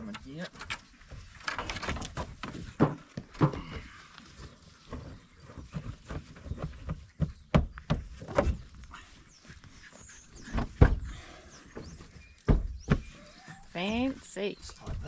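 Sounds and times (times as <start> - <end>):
knocks and thumps in kennel: 0.0 - 8.9, 10.3 - 15.0.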